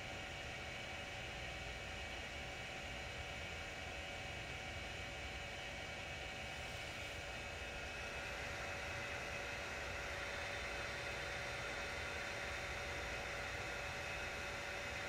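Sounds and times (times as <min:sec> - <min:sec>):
printer fans whirring: 0:00.1 - 0:15.0.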